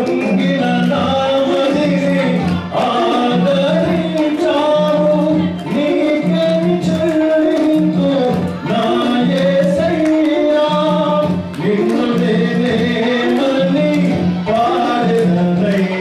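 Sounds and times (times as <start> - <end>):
man singing into a microphone: 0.0 - 16.0.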